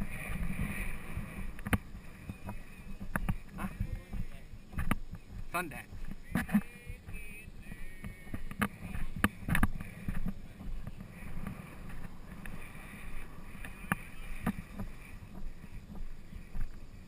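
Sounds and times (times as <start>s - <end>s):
hoof knocks and thuds: 0.0s - 17.0s
rumble of horse riding: 0.0s - 17.0s
wind on microphone: 0.0s - 17.0s.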